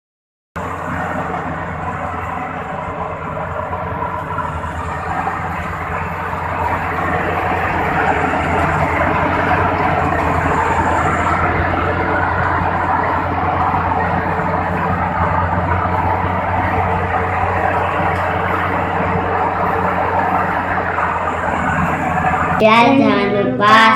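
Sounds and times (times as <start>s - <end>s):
combine harvester running: 0.6s - 23.9s.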